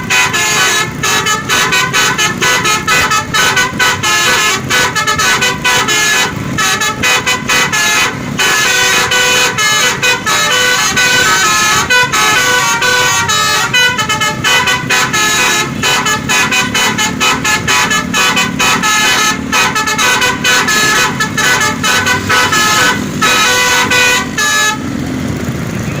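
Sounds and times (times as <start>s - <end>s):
bus musical horn: 0.0s - 25.1s.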